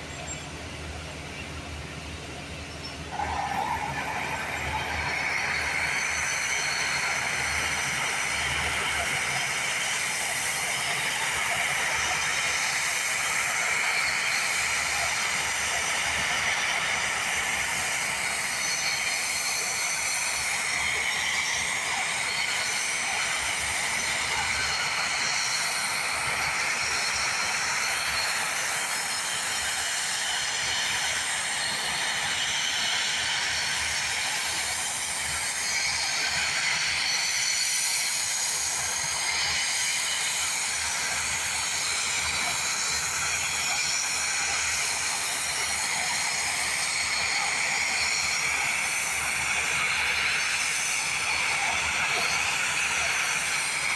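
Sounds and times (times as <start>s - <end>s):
bulldozer engine and tracks: 0.0s - 53.9s.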